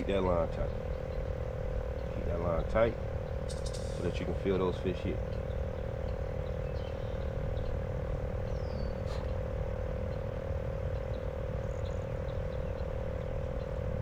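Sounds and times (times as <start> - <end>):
frogs droning chorus: 0.0 - 14.0.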